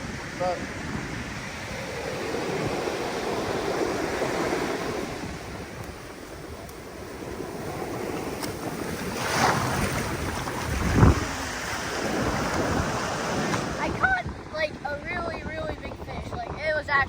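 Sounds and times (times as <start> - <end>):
ocean surf washing onto beach: 0.0 - 17.0
wind rumble on microphone: 0.0 - 17.0.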